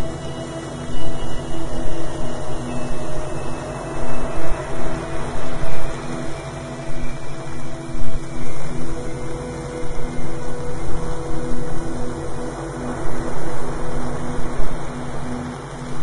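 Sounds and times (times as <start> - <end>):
dense hiss-like noise: 0.0 - 16.0
sustained droning tones: 0.0 - 16.0.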